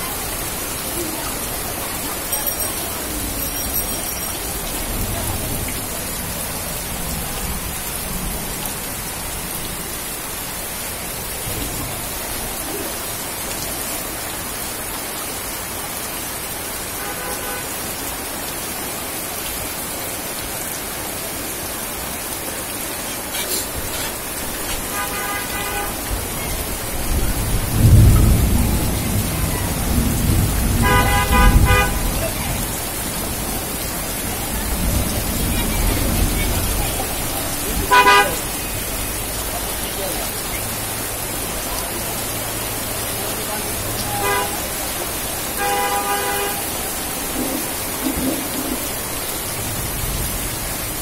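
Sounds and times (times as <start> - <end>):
heavy rain on standing water: 0.0 - 51.0.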